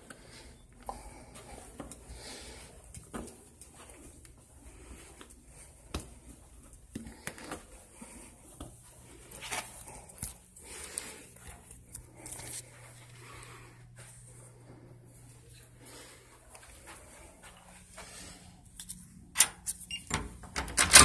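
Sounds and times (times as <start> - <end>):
steady low hum: 0.0 - 20.7
footsteps on carpet: 0.1 - 18.7.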